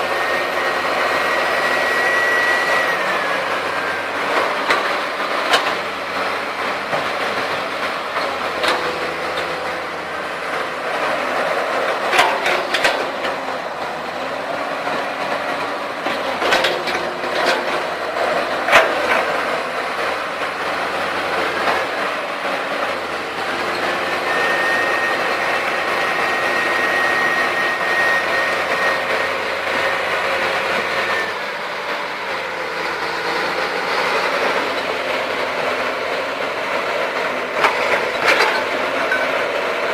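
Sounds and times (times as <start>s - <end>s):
heavy diesel engines running: 0.0s - 39.9s
steel tracks clanking: 0.0s - 39.9s.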